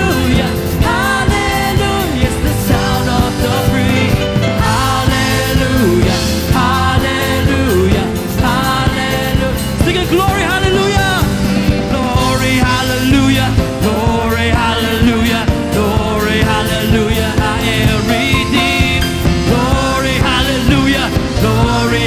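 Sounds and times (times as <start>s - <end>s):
person singing: 0.0s - 22.0s
rock band playing: 0.0s - 22.0s.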